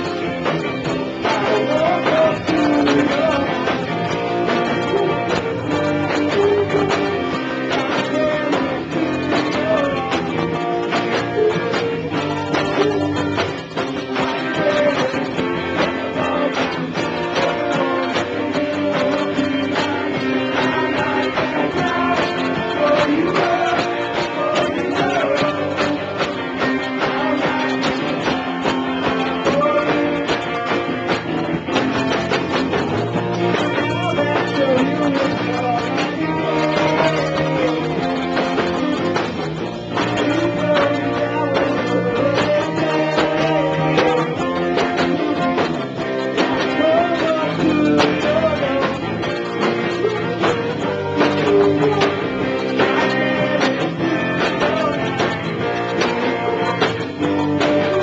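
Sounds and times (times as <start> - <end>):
guitar: 0.0 - 58.0
live rock band playing: 0.0 - 58.0.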